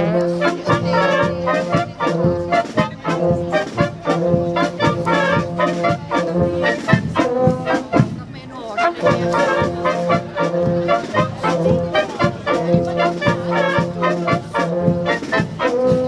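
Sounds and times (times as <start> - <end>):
wind band playing held chords: 0.0 - 16.0.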